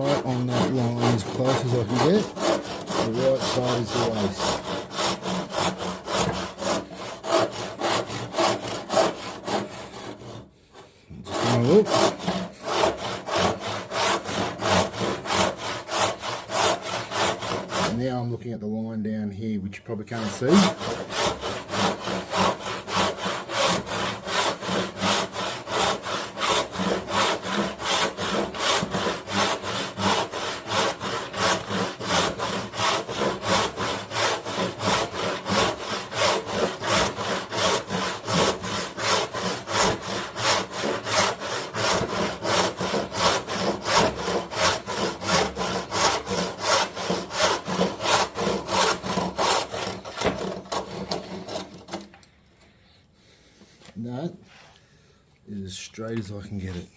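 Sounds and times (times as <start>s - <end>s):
hand saw cutting wood: 0.0s - 18.2s, 20.0s - 52.2s.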